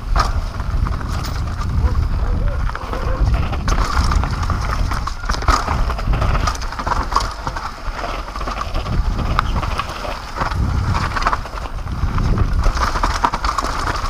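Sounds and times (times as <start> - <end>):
mountain bike rattling over trail: 0.0 - 14.0
tyre noise on dirt: 0.0 - 14.0
wind rumble on microphone: 0.0 - 14.0.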